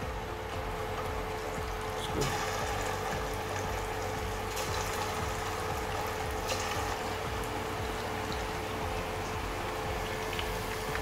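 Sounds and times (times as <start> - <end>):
hot oil sizzling and bubbling: 0.0 - 11.0.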